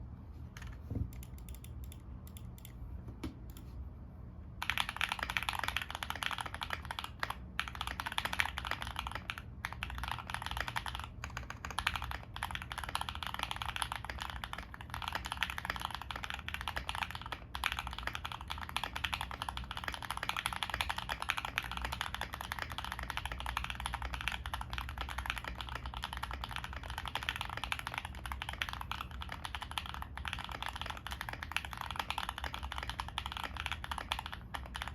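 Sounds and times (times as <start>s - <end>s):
mechanical keyboard typing: 0.6s - 2.8s, 4.6s - 34.9s.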